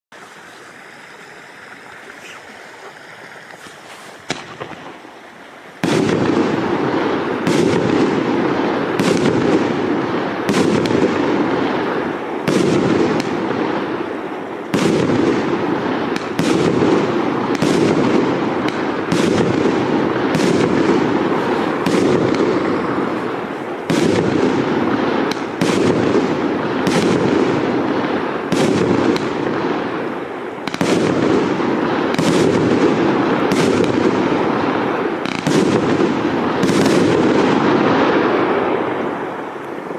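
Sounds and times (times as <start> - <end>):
firework fizzing hiss: 0.2 - 39.6
firework sharp crack: 3.6 - 5.0, 5.7 - 39.8
firework shots: 3.6 - 5.1, 5.7 - 39.9.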